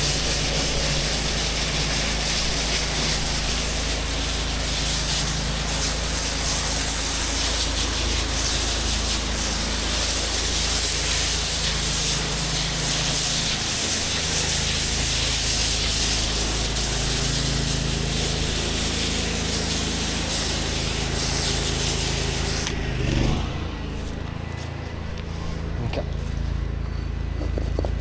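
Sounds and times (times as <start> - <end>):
pressure washer spray hissing: 0.0 - 26.3
engine humming: 0.0 - 28.0.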